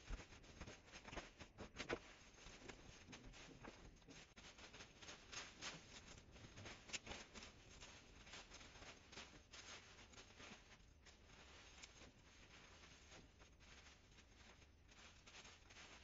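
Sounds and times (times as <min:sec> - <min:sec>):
branches and leaves rustling: 0:00.0 - 0:16.0.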